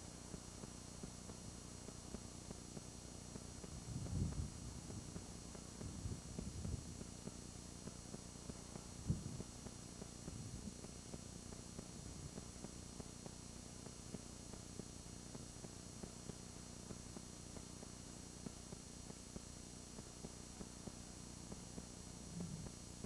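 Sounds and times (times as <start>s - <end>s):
recording hum and hiss: 0.0s - 23.0s.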